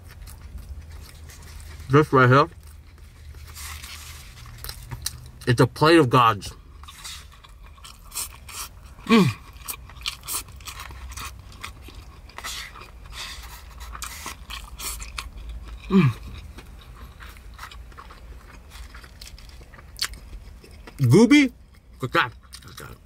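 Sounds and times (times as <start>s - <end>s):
person chewing and crunching food: 0.0s - 5.6s, 6.3s - 23.0s.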